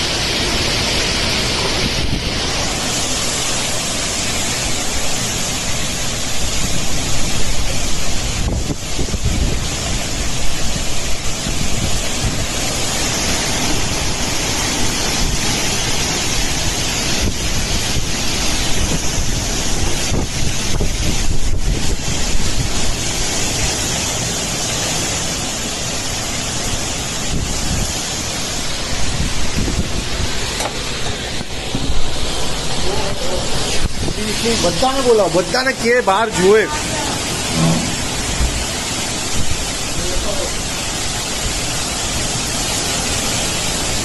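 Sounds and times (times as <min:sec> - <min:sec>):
heavy driving rain: 0:00.0 - 0:44.0
wind: 0:00.0 - 0:44.0
wind buffeting microphone: 0:01.1 - 0:35.2, 0:36.7 - 0:44.0.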